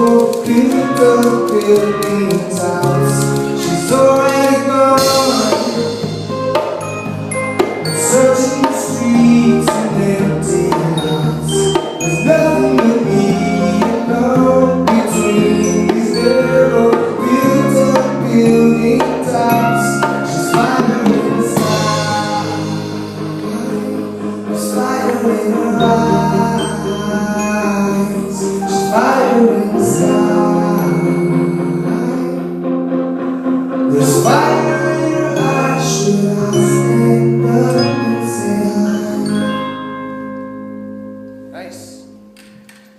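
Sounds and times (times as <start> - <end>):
person singing: 0.0 - 6.4, 7.8 - 33.0, 33.8 - 39.8
marimba: 0.0 - 32.7, 33.9 - 42.6
drums: 0.0 - 39.9.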